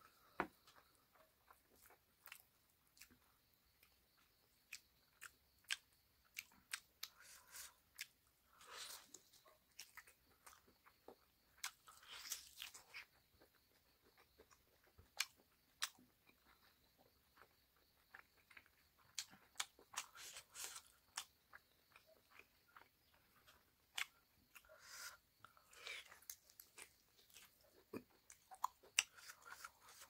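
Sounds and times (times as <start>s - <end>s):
close-up chewing: 0.5s - 30.0s.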